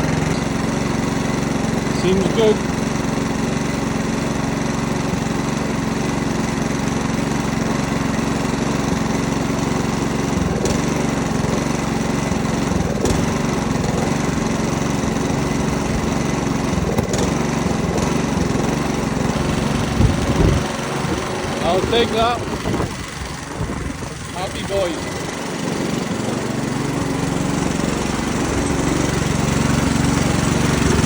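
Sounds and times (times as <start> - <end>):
lawnmower engine running: 0.0 - 31.0.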